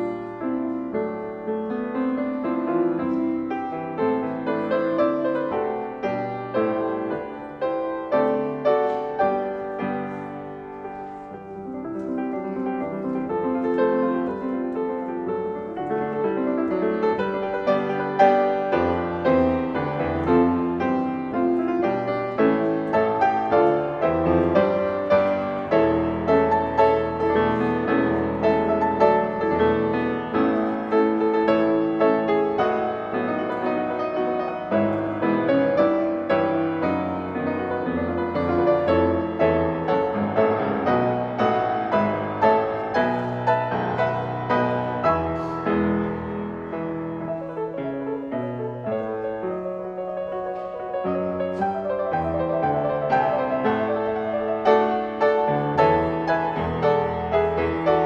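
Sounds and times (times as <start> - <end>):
slow solo piano piece: 0.0 - 58.0.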